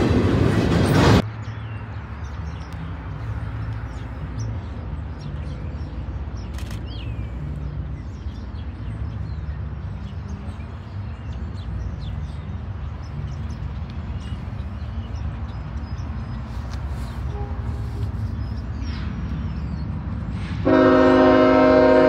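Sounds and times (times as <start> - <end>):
small birds chirping: 1.4 - 20.4.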